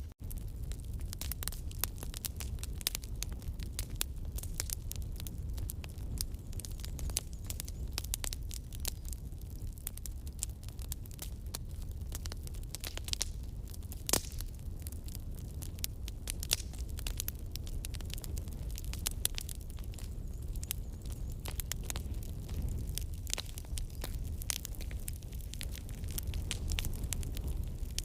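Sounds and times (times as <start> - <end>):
low roar of flames: 0.0 - 28.0
wood crackling and popping: 0.0 - 28.0.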